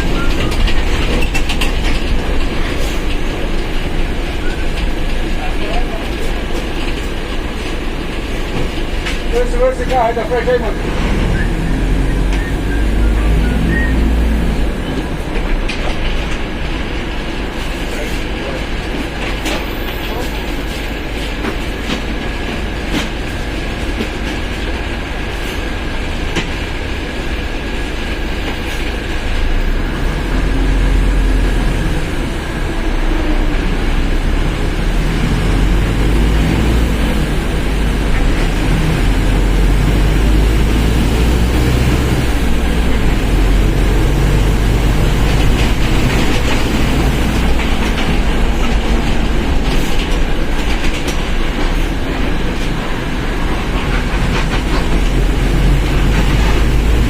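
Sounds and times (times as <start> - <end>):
bus engine and rolling rumble: 0.0 - 57.0.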